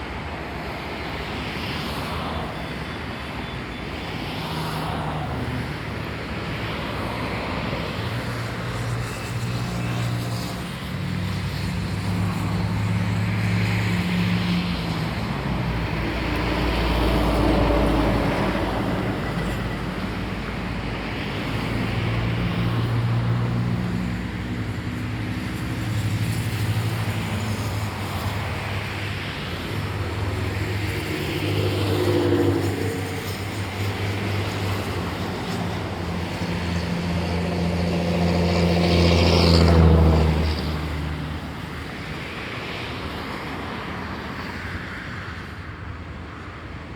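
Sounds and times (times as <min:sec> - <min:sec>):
vehicles passing: 0:00.0 - 0:46.9.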